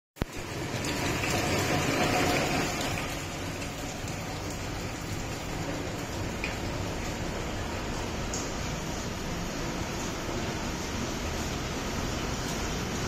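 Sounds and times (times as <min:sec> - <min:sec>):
rain on wet pavement: 0:00.2 - 0:13.0.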